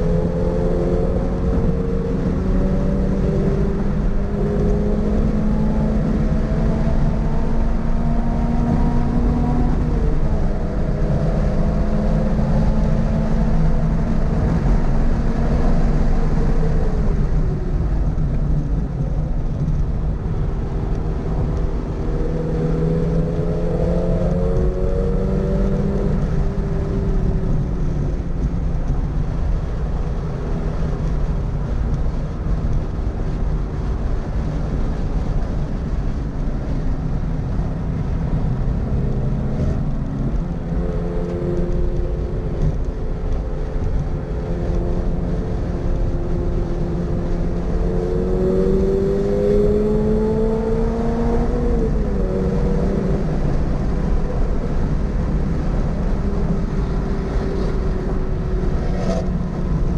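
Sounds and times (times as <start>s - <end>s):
car engine under load: 0.0s - 59.9s
road and wind noise: 0.0s - 59.9s.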